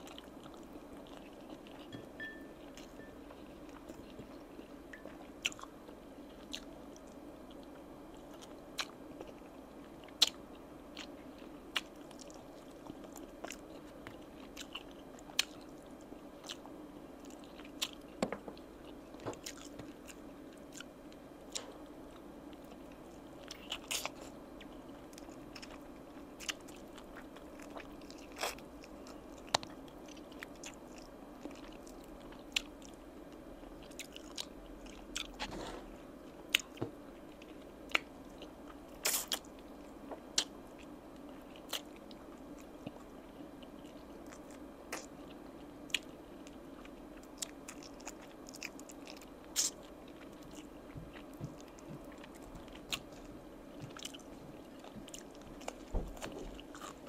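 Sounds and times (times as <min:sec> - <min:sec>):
chewing and crunching: 0:00.0 - 0:57.0
faint steady hum: 0:00.0 - 0:57.0.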